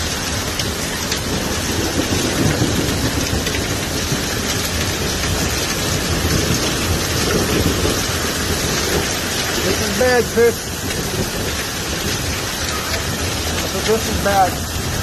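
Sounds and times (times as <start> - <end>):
hailstones ticking close by: 0.0 - 15.0
heavy hail pelting: 0.0 - 15.0.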